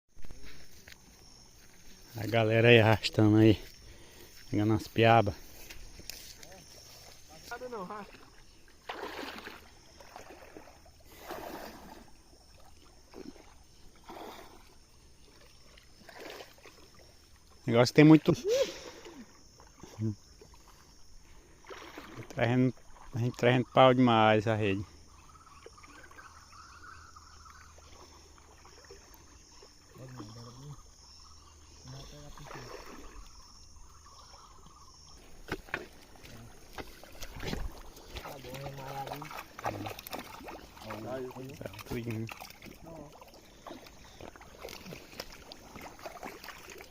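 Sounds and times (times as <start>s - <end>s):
thin insect drone: 0.1s - 46.9s
water splashing and sloshing: 0.1s - 46.9s.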